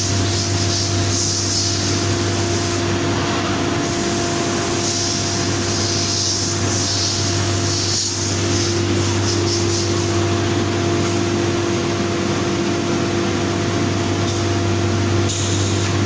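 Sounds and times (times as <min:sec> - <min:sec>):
machine hum with whine: 0:00.0 - 0:16.0.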